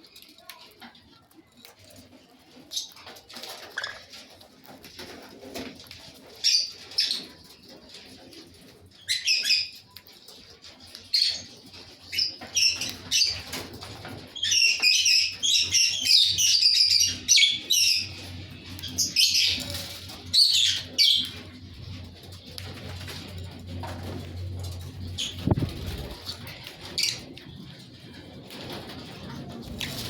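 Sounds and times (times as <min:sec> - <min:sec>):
lovebirds chirping and chattering: 0:00.0 - 0:30.0.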